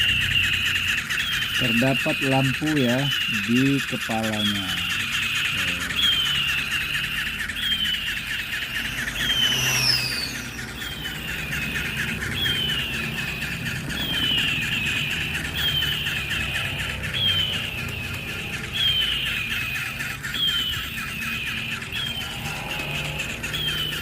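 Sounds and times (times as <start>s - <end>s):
toy eagle electronic screech: 0.0s - 24.0s
toy wing-flapping buzz: 0.0s - 24.0s.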